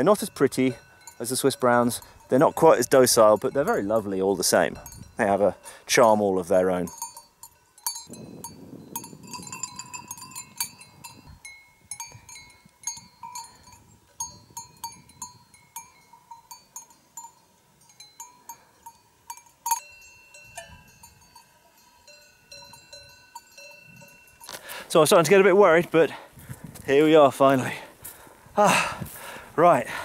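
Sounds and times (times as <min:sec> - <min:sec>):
cowbells clanking: 0:00.0 - 0:26.2.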